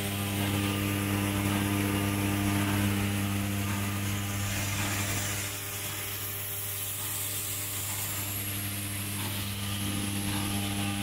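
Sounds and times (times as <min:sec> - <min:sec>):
machine electrical hum: 0:00.0 - 0:11.0.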